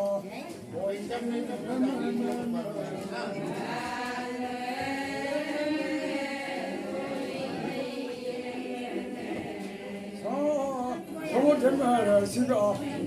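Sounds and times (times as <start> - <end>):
group of voices chanting: 1.1 - 13.0.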